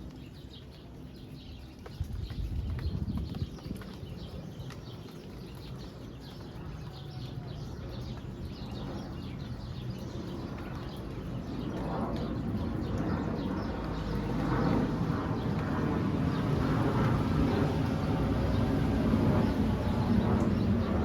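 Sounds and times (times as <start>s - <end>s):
rain falling on ground: 0.0s - 21.0s
small birds chirping: 0.0s - 21.0s.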